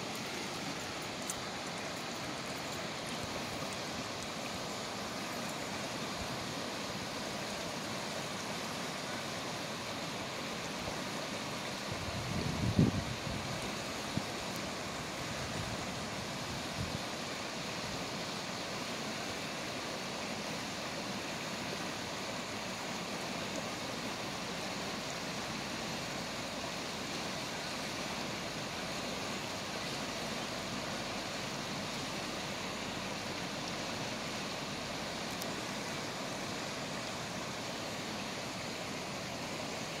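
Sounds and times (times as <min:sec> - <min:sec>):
whitewater rushing over rapids: 0:00.0 - 0:40.0.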